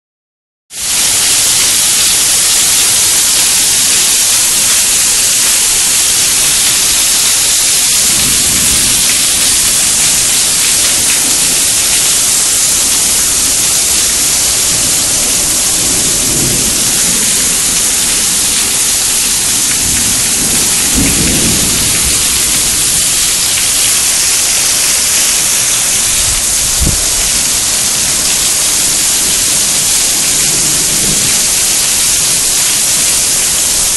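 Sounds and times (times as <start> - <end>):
heavy rain pouring: 0.7 - 33.9.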